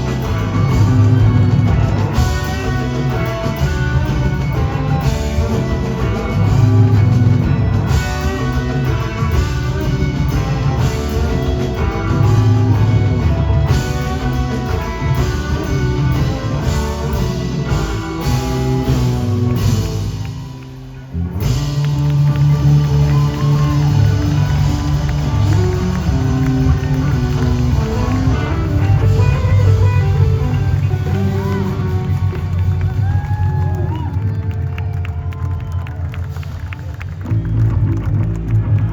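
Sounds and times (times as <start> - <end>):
blues-rock band jamming: 0.0 - 38.9.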